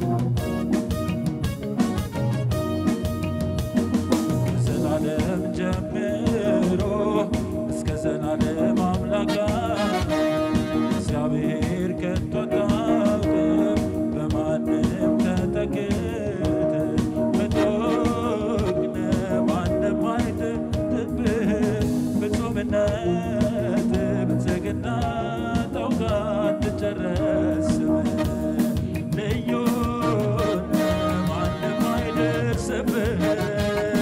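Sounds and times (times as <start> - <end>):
synthesizer keyboard with beat: 0.0 - 34.0
man singing into microphone: 4.0 - 34.0.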